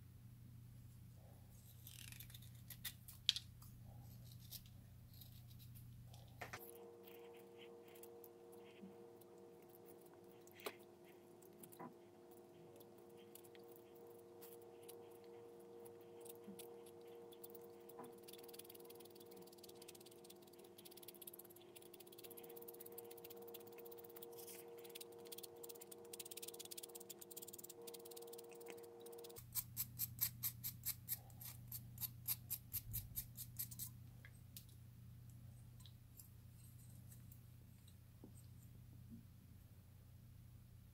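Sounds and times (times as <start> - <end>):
steady low hum: 2.7 - 40.9.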